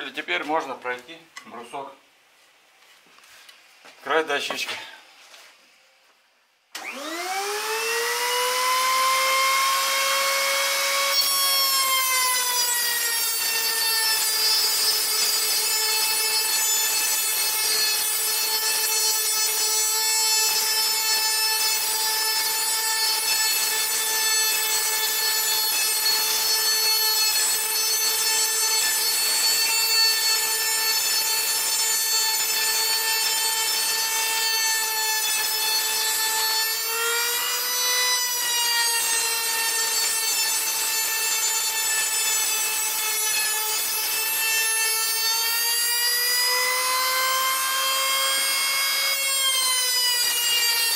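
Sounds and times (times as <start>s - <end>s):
router cutting wooden board: 6.8s - 50.9s
wood router whining: 6.8s - 50.9s.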